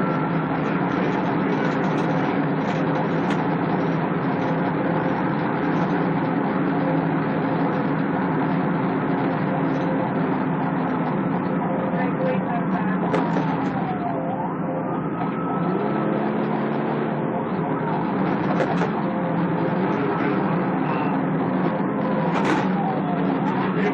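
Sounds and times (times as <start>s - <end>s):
road rumble: 0.0s - 23.9s
vehicle engine running: 0.0s - 23.9s.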